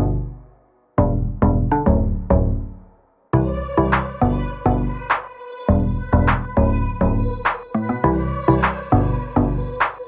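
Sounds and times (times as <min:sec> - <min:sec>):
electronic music with deep bass: 0:00.0 - 0:10.0.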